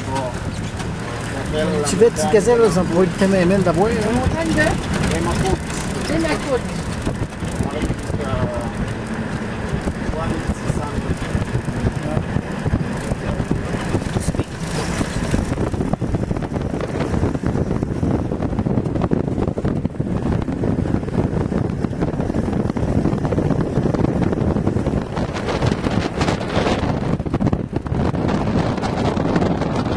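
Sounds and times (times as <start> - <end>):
vehicle engine and road noise: 0.0 - 29.9
wind buffeting microphone: 0.0 - 29.9.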